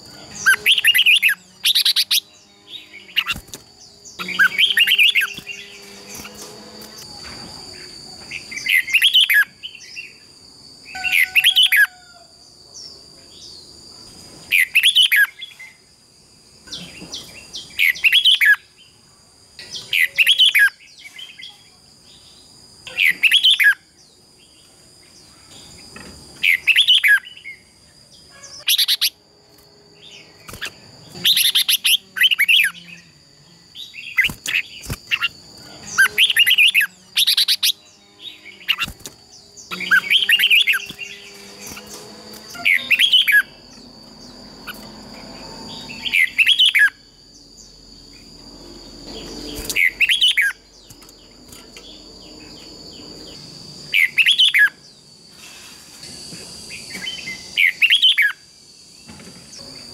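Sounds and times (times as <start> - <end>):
birds singing warbled phrases: 0.0 - 7.1, 7.7 - 12.0, 14.5 - 15.8, 16.6 - 19.0, 19.6 - 29.2, 30.0 - 48.4, 49.0 - 55.0, 56.7 - 58.5.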